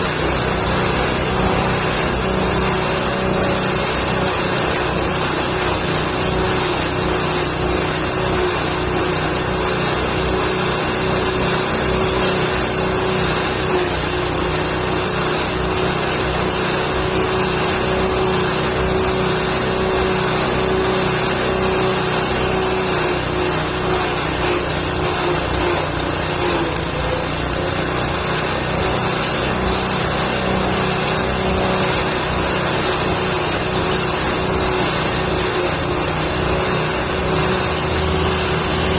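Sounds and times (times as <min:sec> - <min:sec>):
forage chopper machine running: 0:00.0 - 0:38.9.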